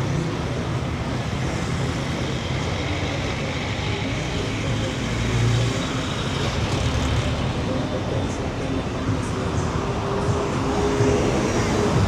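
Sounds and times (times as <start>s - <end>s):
busy city street noise: 0.0s - 12.0s
vehicle engines humming: 0.0s - 12.0s.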